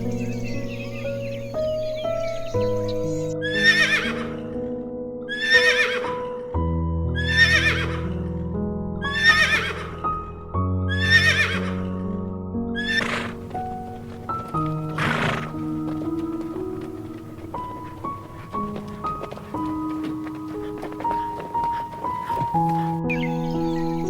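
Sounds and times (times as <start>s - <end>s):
calm instrumental music: 0.0s - 24.0s.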